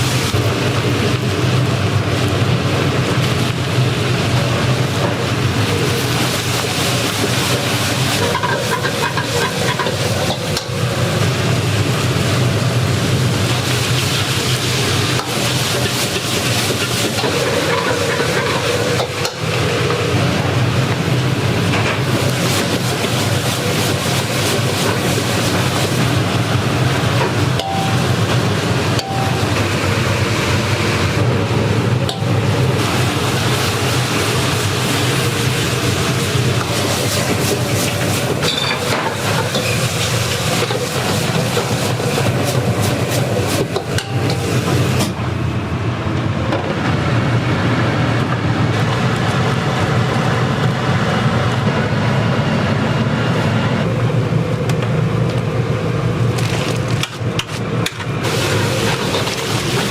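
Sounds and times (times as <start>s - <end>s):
kitchen roar and low hum: 0.0s - 59.9s.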